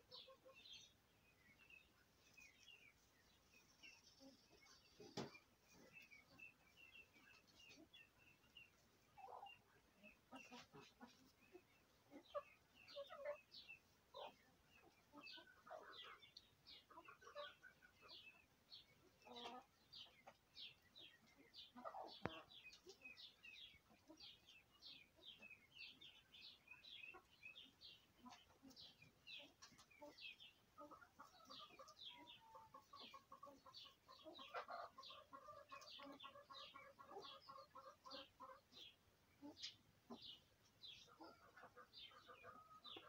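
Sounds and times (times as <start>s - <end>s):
chicks peeping: 0.0s - 43.0s.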